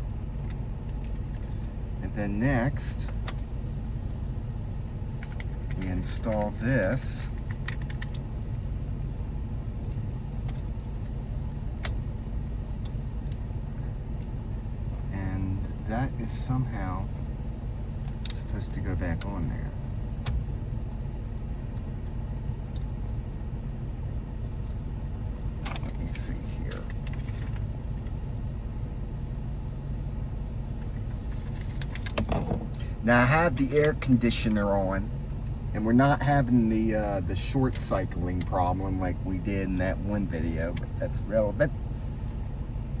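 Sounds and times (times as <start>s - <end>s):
car cabin engine rumble: 0.0s - 43.0s.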